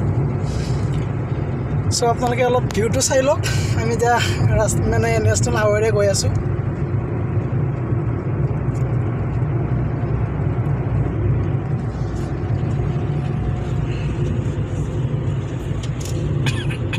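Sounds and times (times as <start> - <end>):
car engine and tyre rumble: 0.0 - 16.9.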